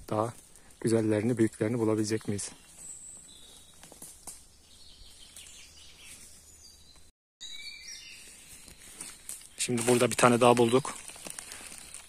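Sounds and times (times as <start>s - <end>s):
footsteps on dry leaves: 0.0s - 6.8s, 7.8s - 12.0s
faint birdsong chirps: 0.0s - 12.0s.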